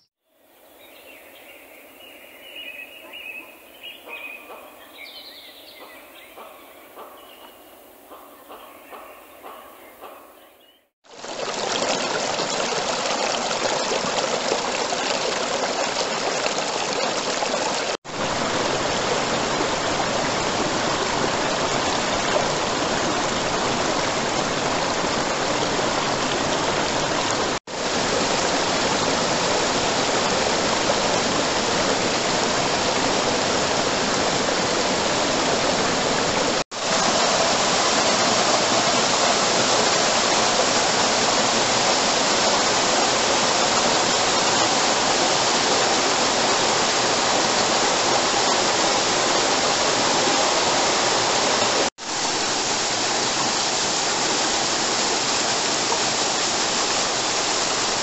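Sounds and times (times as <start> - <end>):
small waterfall pouring: 11.0 - 58.0
stream rushing over rocks: 11.0 - 58.0.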